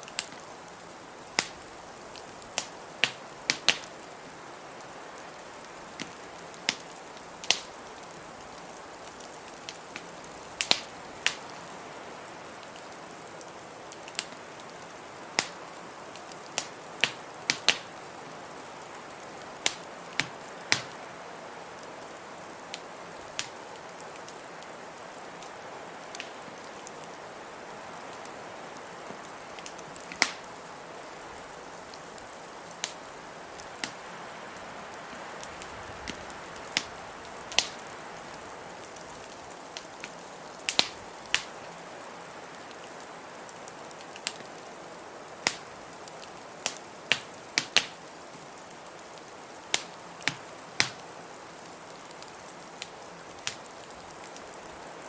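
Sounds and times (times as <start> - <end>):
wood fire crackling and popping: 0.0 - 27.3, 27.9 - 41.9, 42.5 - 54.8.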